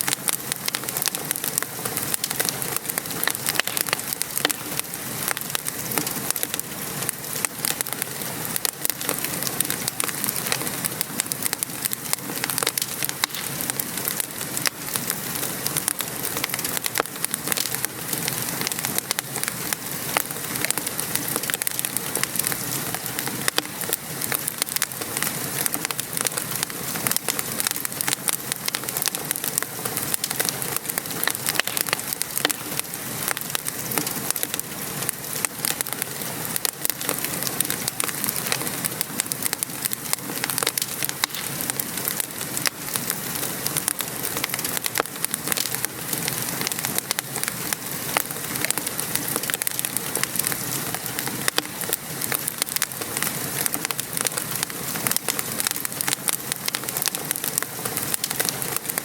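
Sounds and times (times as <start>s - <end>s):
rain patter: 0.0s - 59.0s
wood fire crackling: 0.0s - 59.0s.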